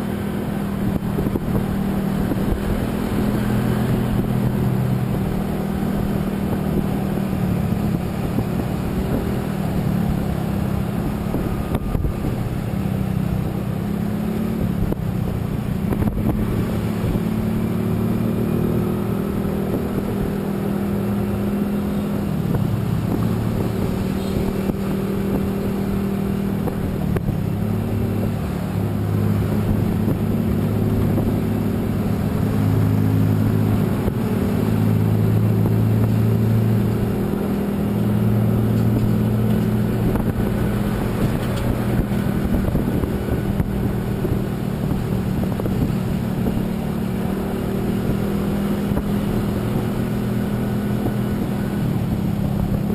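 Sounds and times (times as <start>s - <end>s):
road noise: 0.0s - 52.9s
vehicle engine hum: 0.0s - 52.9s.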